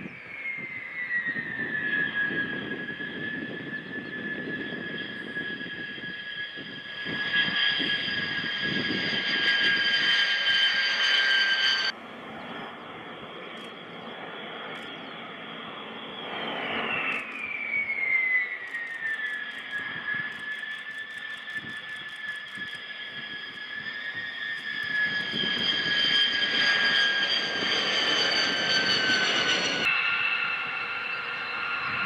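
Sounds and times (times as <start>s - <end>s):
jet engines whining: 0.0s - 32.0s
quieter jet whine falling in pitch: 0.0s - 32.0s.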